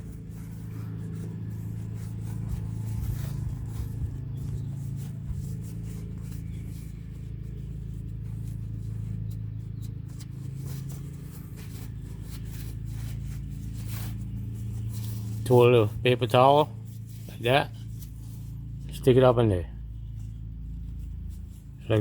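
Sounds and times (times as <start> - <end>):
faint scraping and rubbing: 0.0 - 22.0
steady low hum: 0.0 - 22.0.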